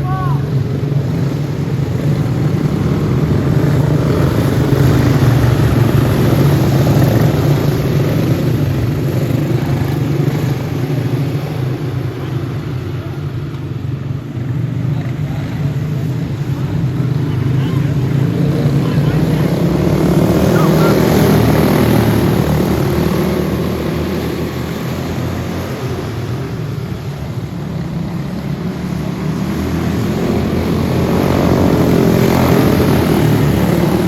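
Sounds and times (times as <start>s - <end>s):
go-kart engines racing: 0.0s - 34.0s.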